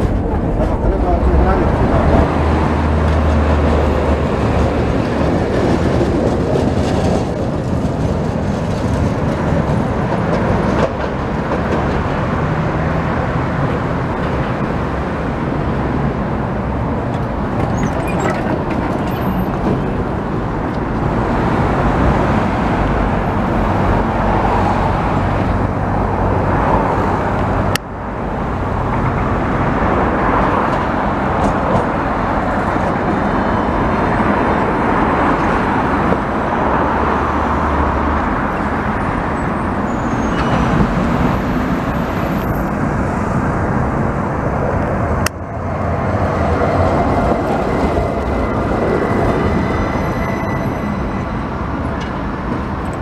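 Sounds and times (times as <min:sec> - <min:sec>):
passing road traffic: 0:00.0 - 0:53.0
tram wheels rumbling on track: 0:00.0 - 0:53.0.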